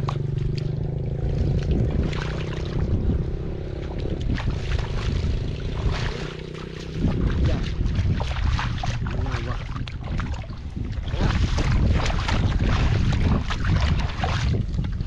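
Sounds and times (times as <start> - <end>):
hands sloshing in muddy water: 0.0 - 15.0
steady low hum: 0.0 - 15.0
wind buffeting microphone: 0.0 - 15.0.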